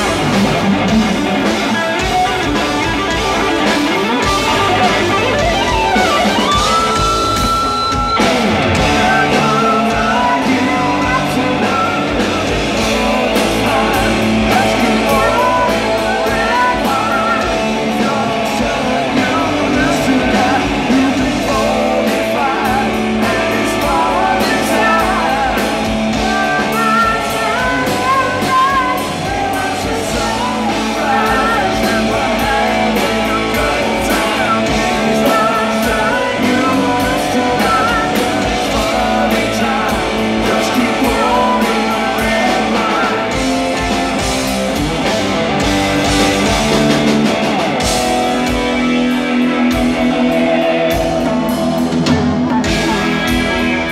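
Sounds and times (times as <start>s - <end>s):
live rock band: 0.0s - 53.9s
male lead vocal: 0.0s - 53.9s.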